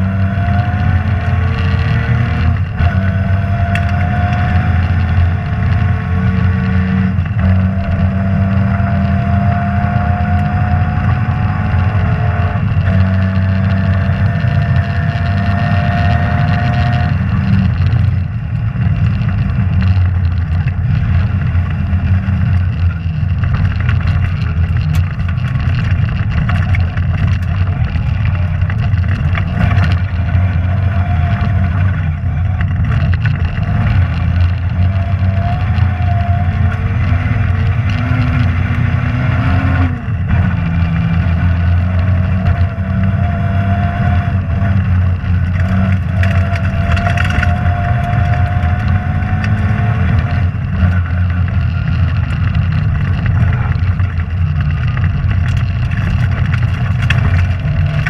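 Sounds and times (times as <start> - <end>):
rally car engine running hard: 0.0 - 58.0.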